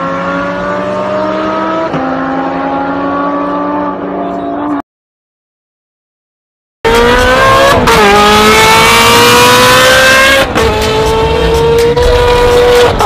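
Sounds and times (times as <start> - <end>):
car engine accelerating hard: 0.0 - 4.8, 6.9 - 13.0.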